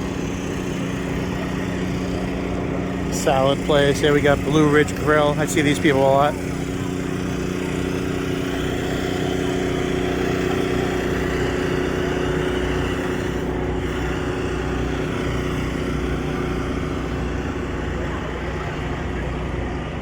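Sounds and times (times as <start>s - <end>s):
small engine humming: 0.0s - 20.0s.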